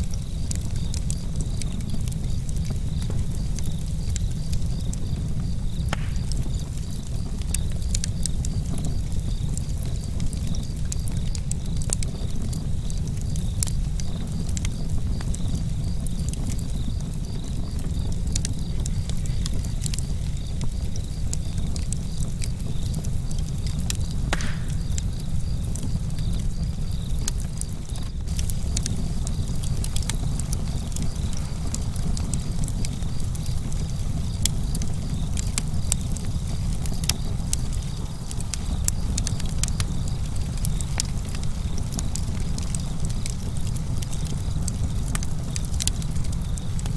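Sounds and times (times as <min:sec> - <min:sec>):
campfire crackling and popping: 0:00.0 - 0:46.9
crickets chirping: 0:00.0 - 0:46.9.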